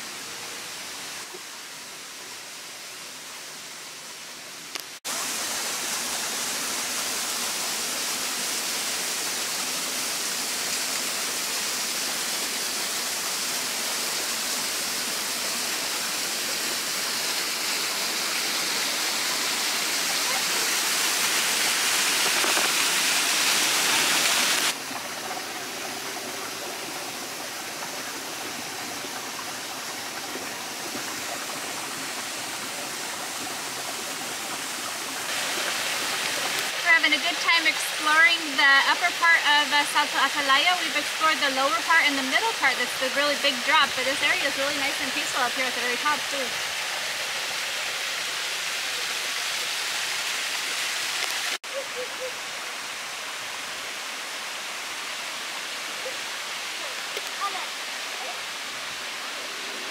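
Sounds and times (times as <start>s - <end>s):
waterfall pouring: 5.0s - 59.9s.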